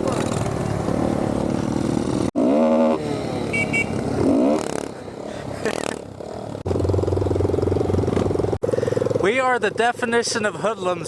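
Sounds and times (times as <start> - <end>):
small motorcycle engines revving: 0.0 - 10.2.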